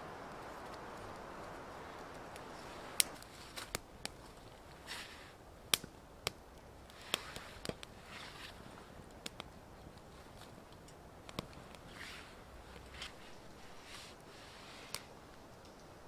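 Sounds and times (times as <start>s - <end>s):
steady rushing hiss: 0.0s - 16.0s
firewood cracking and snapping: 0.1s - 14.3s.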